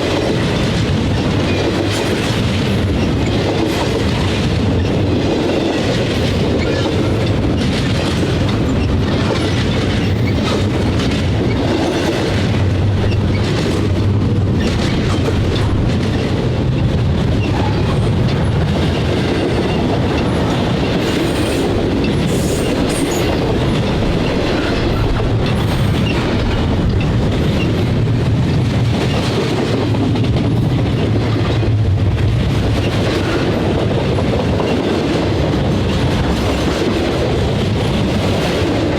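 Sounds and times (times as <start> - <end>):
freight train rumbling: 0.0 - 38.9.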